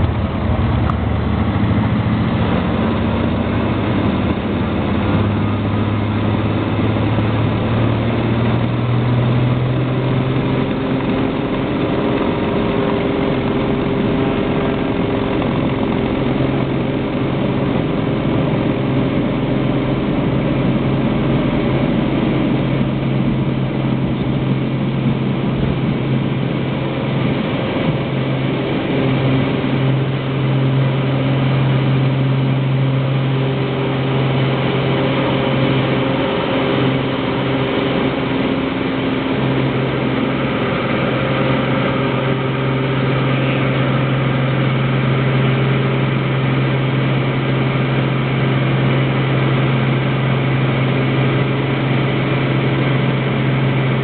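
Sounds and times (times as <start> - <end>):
airplane engine and propeller drone: 0.0 - 54.0.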